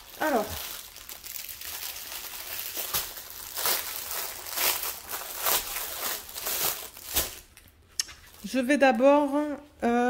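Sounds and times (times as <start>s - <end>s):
plastic wrapping crinkling: 0.0s - 8.7s.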